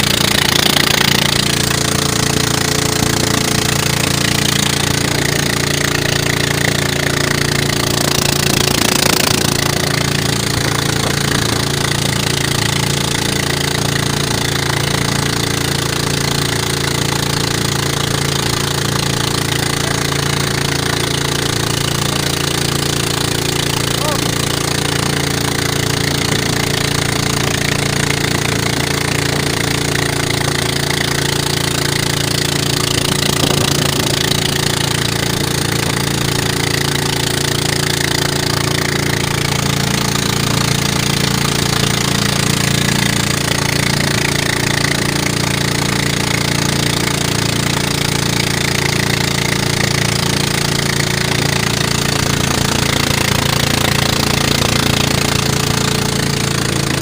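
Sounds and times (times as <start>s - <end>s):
boat engine running: 0.0s - 57.0s
water splashing along hull: 0.0s - 57.0s.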